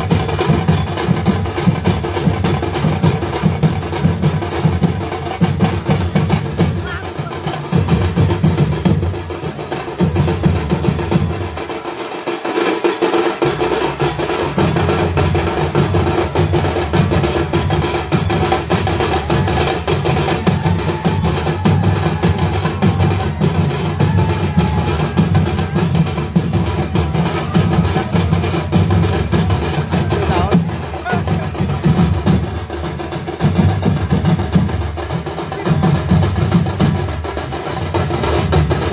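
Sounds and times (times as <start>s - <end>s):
fast steady drumming: 0.0s - 38.9s.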